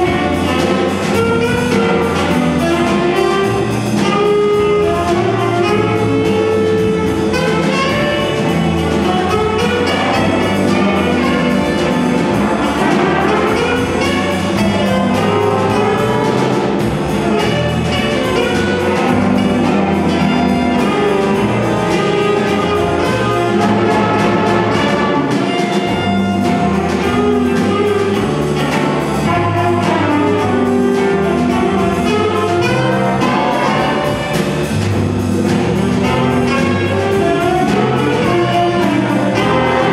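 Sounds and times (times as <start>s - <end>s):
jazz big band playing: 0.0s - 39.9s.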